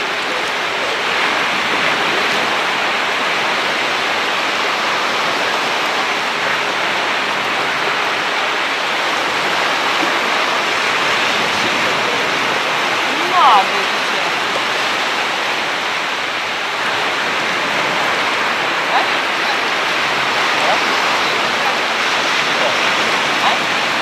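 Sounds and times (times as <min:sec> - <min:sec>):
waves breaking on rocky shore: 0:00.0 - 0:24.0.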